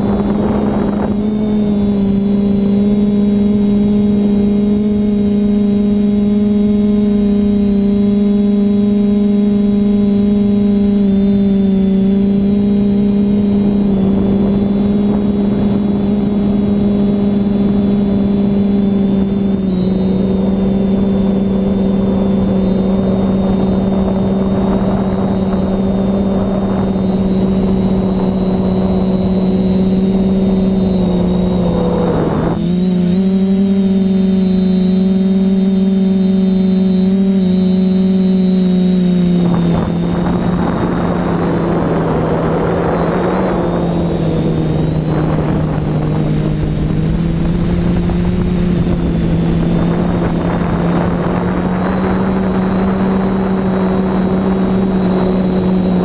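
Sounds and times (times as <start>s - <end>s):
drone propellers humming: 0.0s - 56.0s
high electronic whine: 0.0s - 56.0s.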